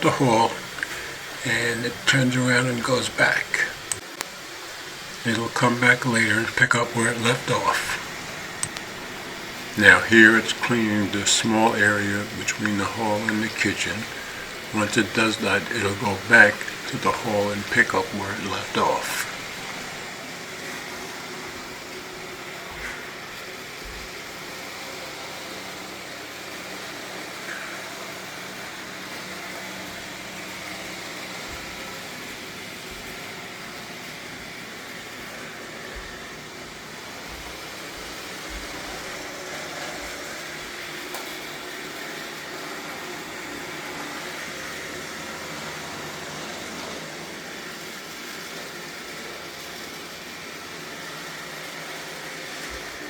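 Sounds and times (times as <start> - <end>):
robot vacuum whirring: 0.0 - 53.0.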